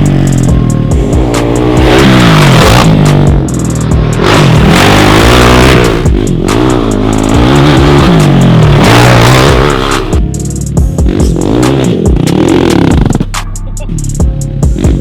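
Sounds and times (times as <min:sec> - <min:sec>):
quad engine revving: 0:00.0 - 0:14.0, 0:14.6 - 0:15.0.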